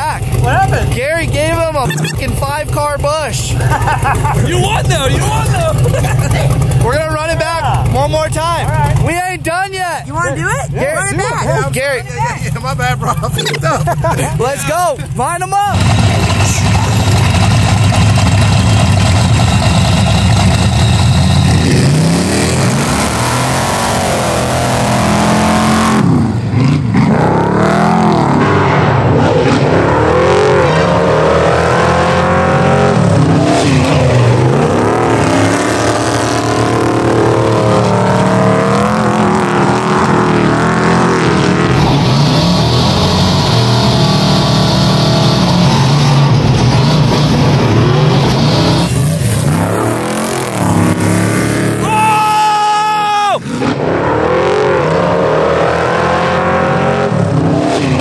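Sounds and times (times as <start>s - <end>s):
race engines revving: 0.0s - 58.0s.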